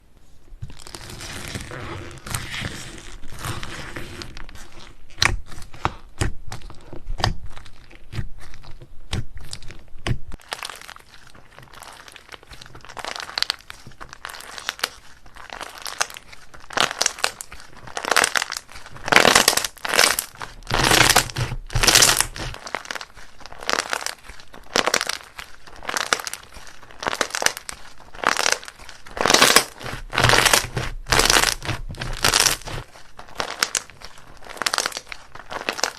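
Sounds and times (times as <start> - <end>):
slime squishing with crackly pops: 4.4 - 35.9.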